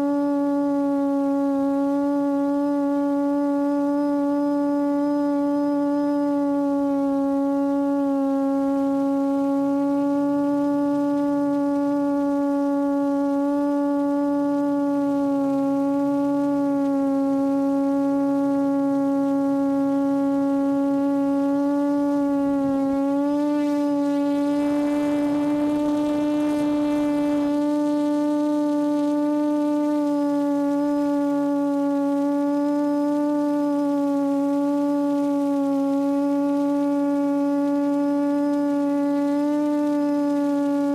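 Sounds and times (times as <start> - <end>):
quadcopter motors droning whine: 0.0 - 40.9.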